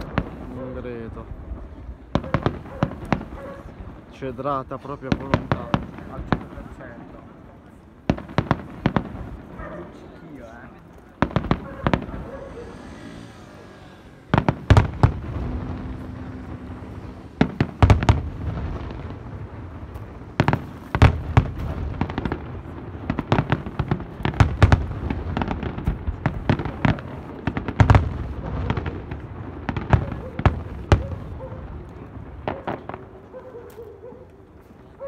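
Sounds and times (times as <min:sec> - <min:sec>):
rumble of firework reports: 0:00.0 - 0:33.4.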